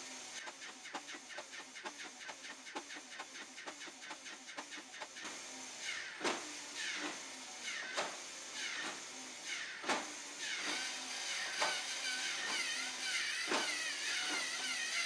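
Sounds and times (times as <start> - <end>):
whirring motor mechanism: 0.0 - 15.0.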